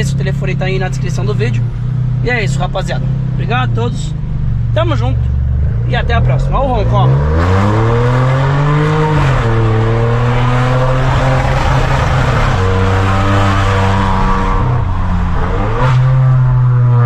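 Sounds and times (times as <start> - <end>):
car engine exhaust revving: 0.0 - 17.0.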